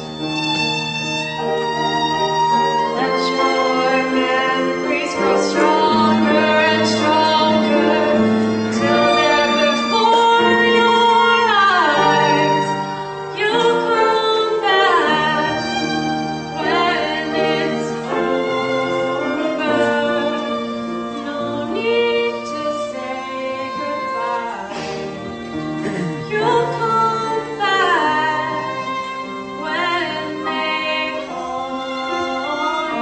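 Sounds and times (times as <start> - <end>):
bowed strings: 0.0 - 33.0.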